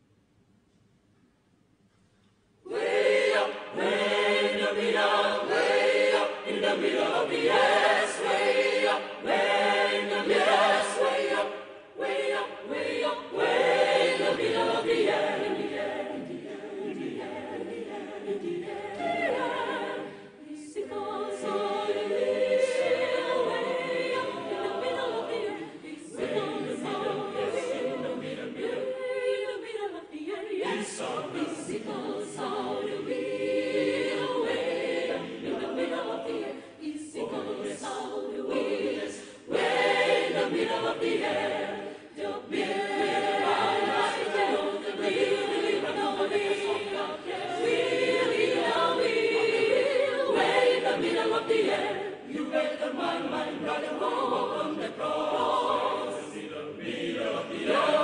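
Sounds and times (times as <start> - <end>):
choir singing a cappella: 2.6 - 58.0.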